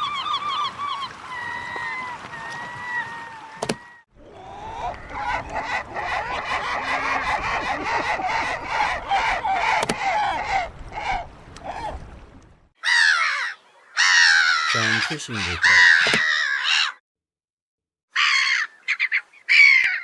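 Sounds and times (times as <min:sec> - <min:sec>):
gulls calling: 0:00.0 - 0:17.0, 0:18.1 - 0:20.0.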